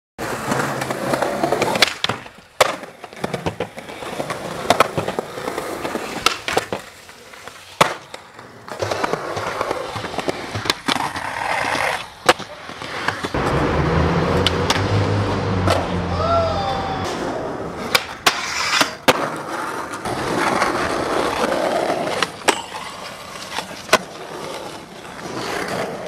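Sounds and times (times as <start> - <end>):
skateboard clacks: 0.2 - 13.6, 17.0 - 26.0
skateboard wheels rolling on concrete: 0.2 - 26.0.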